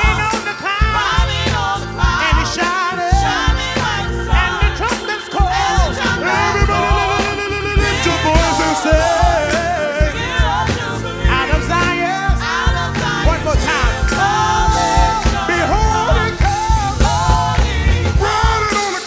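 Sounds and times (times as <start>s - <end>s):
backing music with steady beat: 0.0s - 19.0s
gospel group singing: 0.0s - 19.0s.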